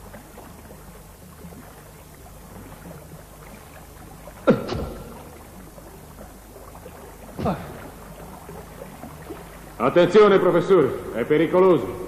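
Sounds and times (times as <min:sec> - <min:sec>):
water flowing through cave: 0:00.0 - 0:12.0.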